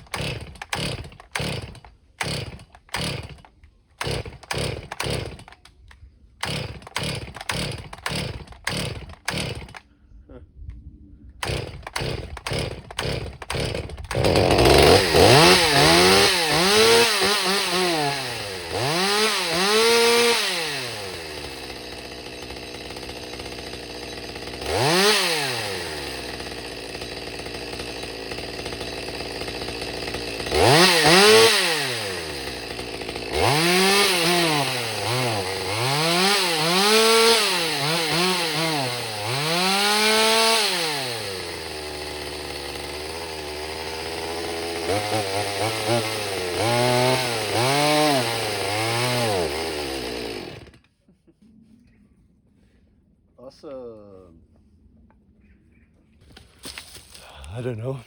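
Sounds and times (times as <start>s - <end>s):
chainsaw revving and idling: 0.0s - 9.8s, 11.4s - 50.9s
chainsaw starting pops: 0.0s - 9.9s, 11.4s - 51.0s, 56.3s - 57.7s.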